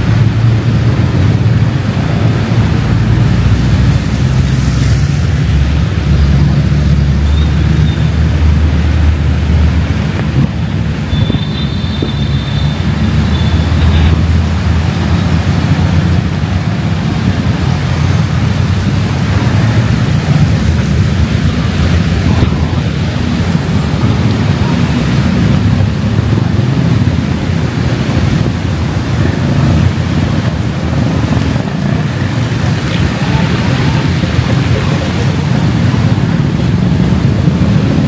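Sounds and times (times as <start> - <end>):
city road traffic: 0.0 - 38.0
heavy rain: 0.0 - 38.0.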